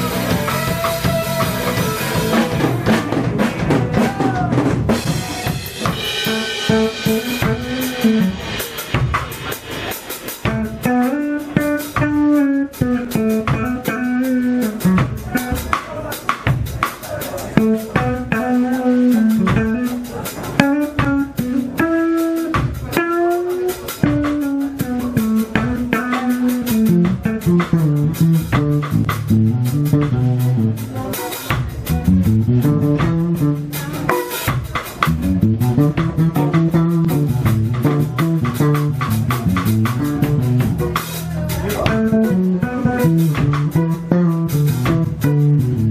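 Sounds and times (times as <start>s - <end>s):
bass: 0.0s - 45.9s
drum kit: 0.0s - 45.9s.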